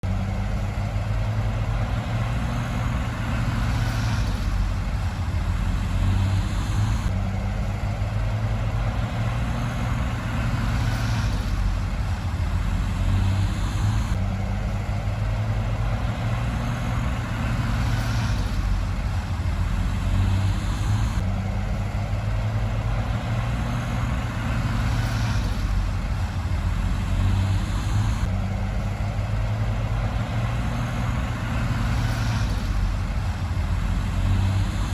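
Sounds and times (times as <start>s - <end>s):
diesel engine deep rumble: 0.0s - 34.9s.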